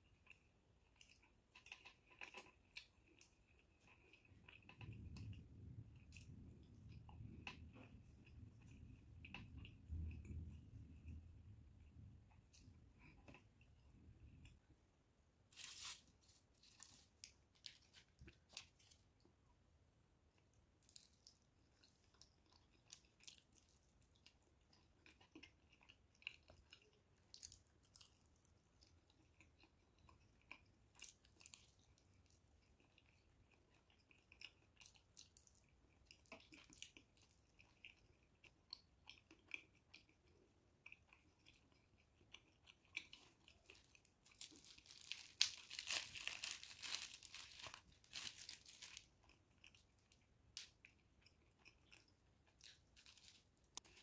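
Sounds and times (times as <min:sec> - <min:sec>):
crunching and chewing: 0:00.0 - 0:14.7, 0:15.5 - 0:19.4, 0:20.3 - 0:54.0.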